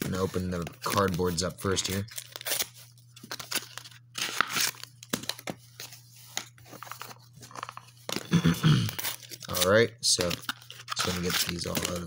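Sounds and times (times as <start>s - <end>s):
cardboard packaging tearing: 0.1s - 12.0s
crinkles and clicks: 2.1s - 12.0s.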